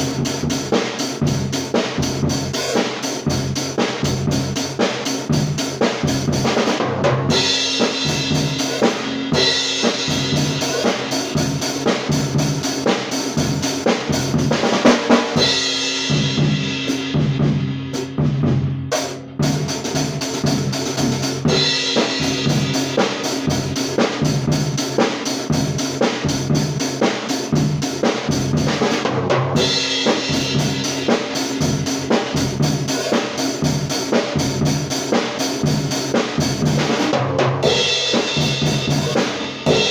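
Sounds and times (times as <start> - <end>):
drum kit playing rock beat: 0.0 - 39.9.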